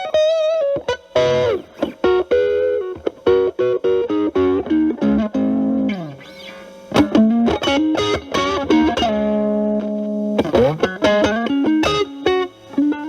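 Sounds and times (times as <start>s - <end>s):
distorted electric guitar lead: 0.0s - 13.0s.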